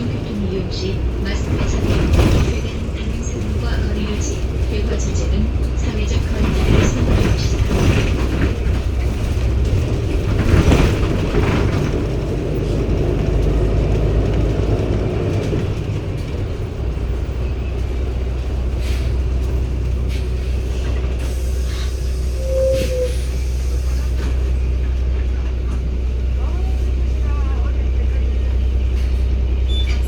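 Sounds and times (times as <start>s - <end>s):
bus cabin rattling: 0.0s - 30.0s
bus diesel engine droning: 0.0s - 30.0s.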